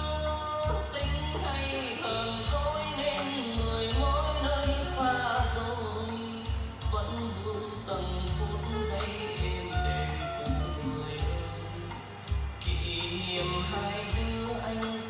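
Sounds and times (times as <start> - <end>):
song with singing bass and drums: 0.0 - 15.0.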